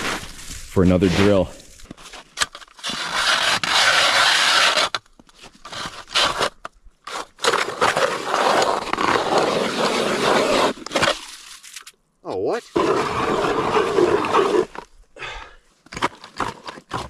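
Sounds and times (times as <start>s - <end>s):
ice auger scraping through ice: 0.0s - 5.0s, 5.6s - 11.6s, 12.6s - 14.9s, 15.9s - 17.0s.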